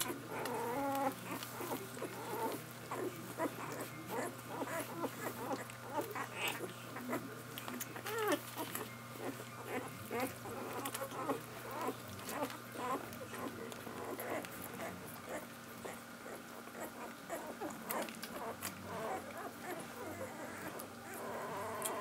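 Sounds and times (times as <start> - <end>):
puppies squeaking and grunting: 0.0 - 22.0
puppies suckling: 0.0 - 22.0.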